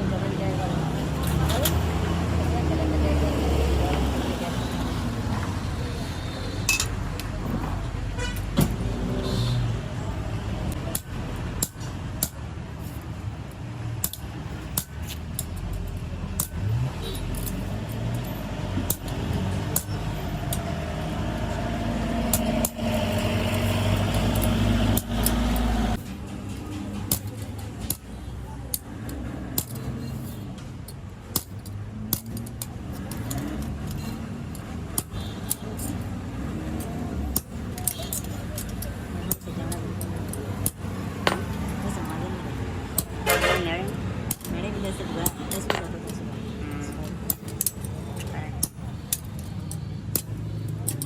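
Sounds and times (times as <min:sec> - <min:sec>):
engine-like hum: 0:00.0 - 0:51.0
low rumble of engines: 0:00.0 - 0:51.0
hand tools tapping on metal: 0:01.0 - 0:02.8, 0:06.6 - 0:10.1, 0:10.7 - 0:51.0.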